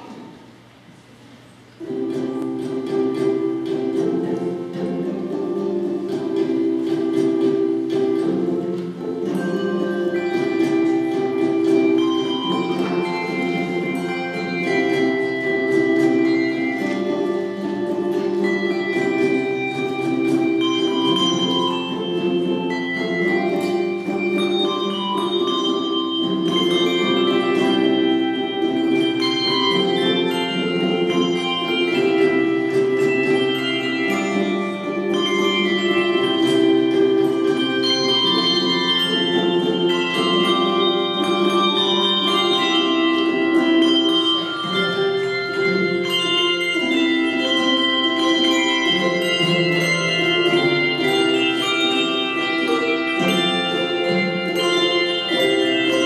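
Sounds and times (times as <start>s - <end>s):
handbell choir ringing: 1.8s - 56.0s.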